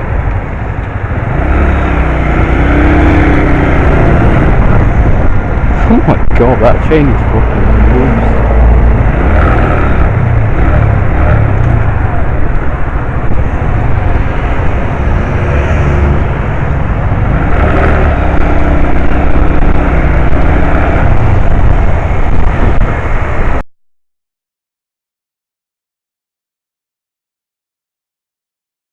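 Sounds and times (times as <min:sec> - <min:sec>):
wind rumble on microphone: 0:00.0 - 0:23.6.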